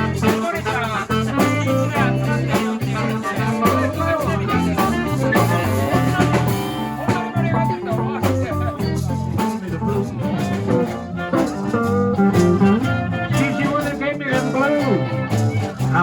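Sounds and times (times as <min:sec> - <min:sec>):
live blues band playing: 0:00.0 - 0:16.0
person singing: 0:00.0 - 0:16.0.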